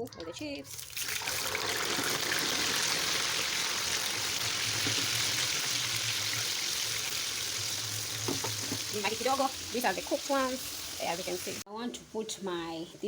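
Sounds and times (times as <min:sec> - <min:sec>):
chips sizzling in hot oil: 0:00.7 - 0:11.6.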